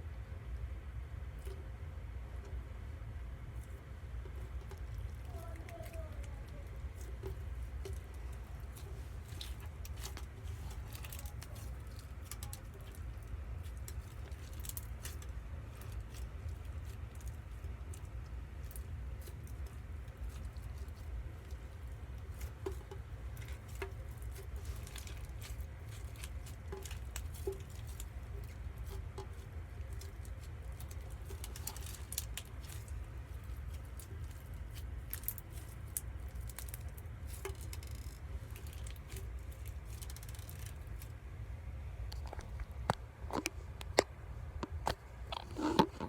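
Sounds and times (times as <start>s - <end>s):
slime squishing: 1.0s - 46.0s.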